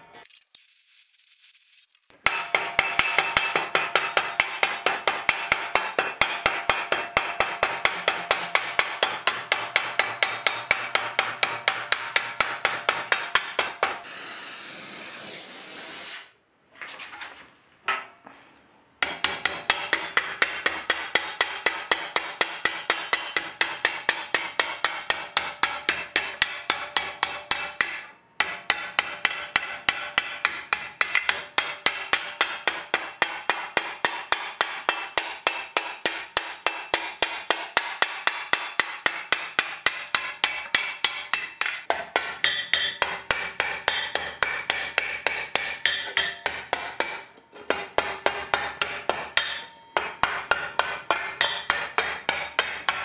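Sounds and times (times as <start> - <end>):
hammer ringing on steel plate: 2.3 - 14.0, 19.0 - 53.0.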